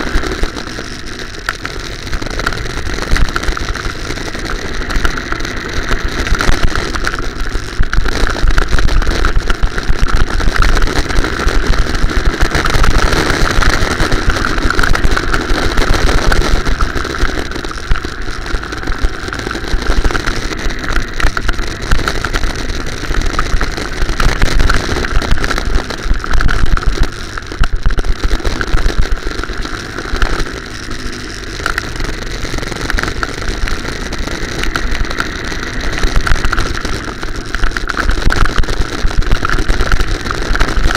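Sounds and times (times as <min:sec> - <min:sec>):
go-kart engine running: 0:00.0 - 0:40.9.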